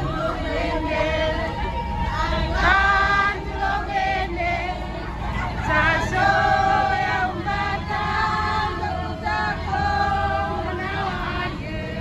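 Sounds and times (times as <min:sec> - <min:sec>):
low steady rumble: 0:00.0 - 0:12.0
women singing: 0:00.0 - 0:12.0.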